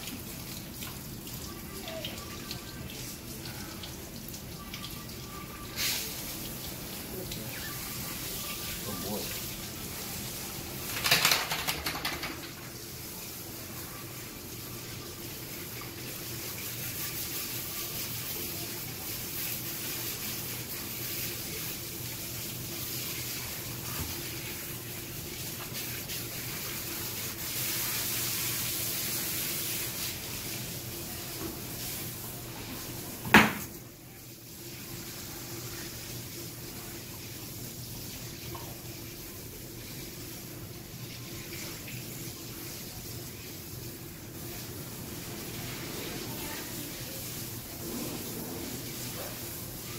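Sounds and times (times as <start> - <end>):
water spraying from hose nozzle: 5.0 - 10.6, 12.7 - 49.9.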